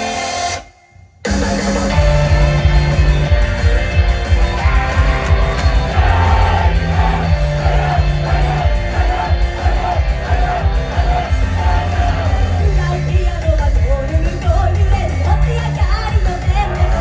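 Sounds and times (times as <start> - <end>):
rock band playing: 1.3 - 17.0.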